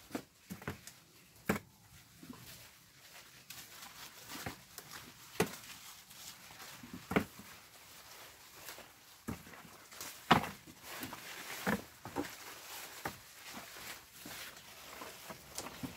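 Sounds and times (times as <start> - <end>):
leaves rustling: 1.9 - 15.9.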